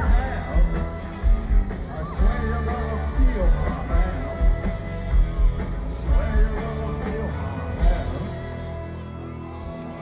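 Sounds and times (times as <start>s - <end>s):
bass guitar: 0.0s - 10.0s
electric guitars: 0.0s - 10.0s
heavy drums: 0.0s - 10.0s.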